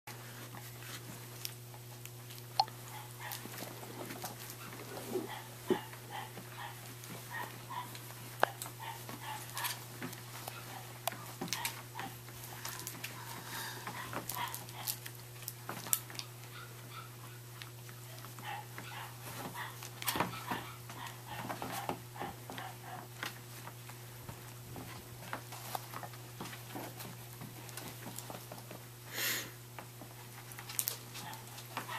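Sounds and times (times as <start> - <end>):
paws tapping and scuffling: 0.1 - 29.0, 29.7 - 31.9.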